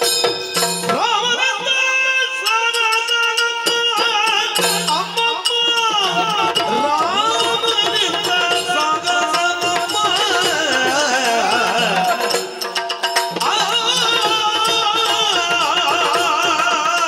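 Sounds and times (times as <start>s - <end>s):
fast drum strokes: 2.6s - 17.0s.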